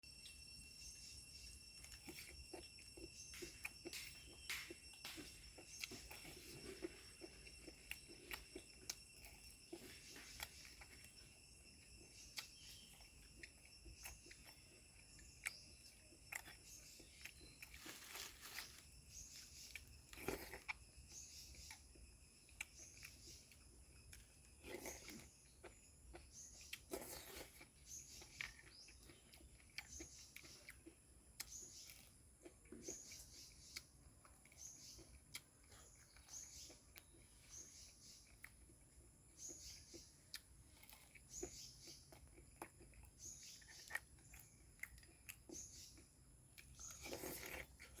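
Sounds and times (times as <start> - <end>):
person chewing with mouth smacks: 1.7 - 48.0.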